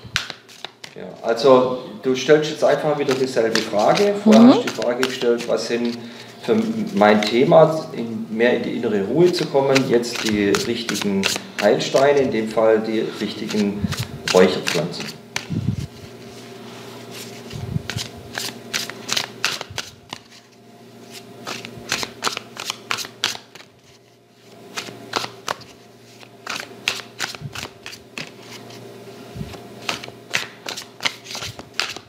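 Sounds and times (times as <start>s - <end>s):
cards being shuffled: 0.1s - 1.1s, 2.8s - 7.4s, 9.2s - 12.4s, 13.2s - 16.4s, 17.0s - 28.8s, 29.4s - 32.0s.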